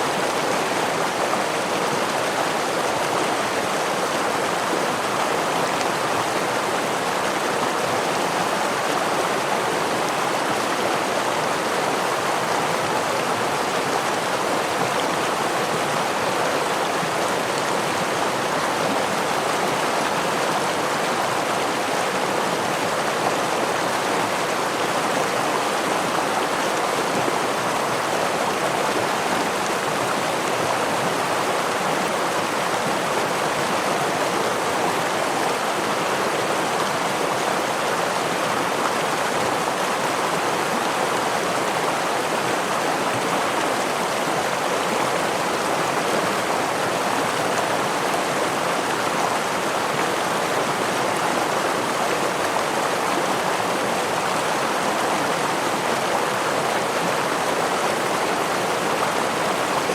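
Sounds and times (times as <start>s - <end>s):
stream water flowing over falls: 0.0s - 59.9s.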